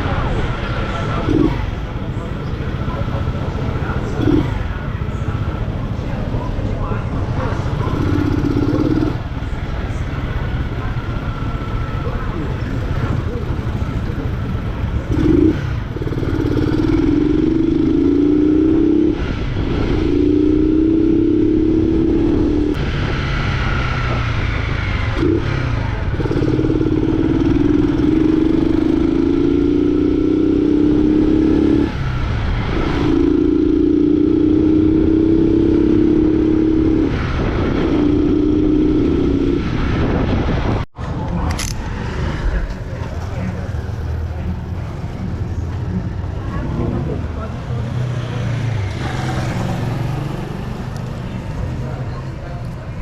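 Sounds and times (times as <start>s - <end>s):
motorcycle engine revving: 0.0s - 40.9s, 41.6s - 53.0s.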